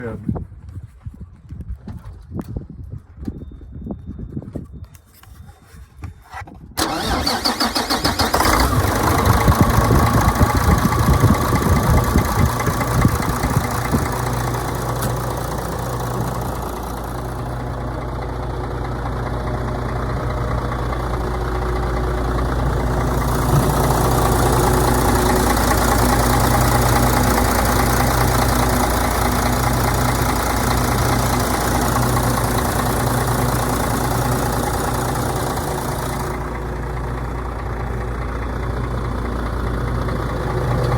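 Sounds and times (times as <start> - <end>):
diesel truck engine starting and idling: 6.8 - 40.9.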